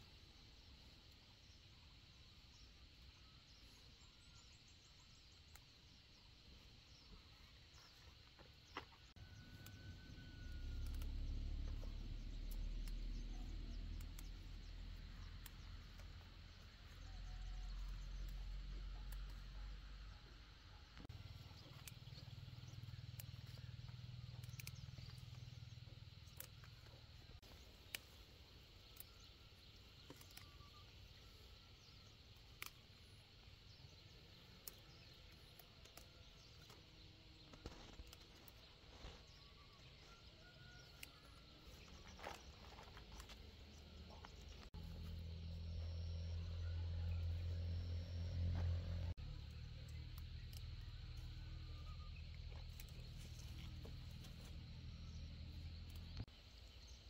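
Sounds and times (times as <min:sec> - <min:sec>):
insects: 0:00.0 - 0:57.0
birds: 0:00.4 - 0:57.0.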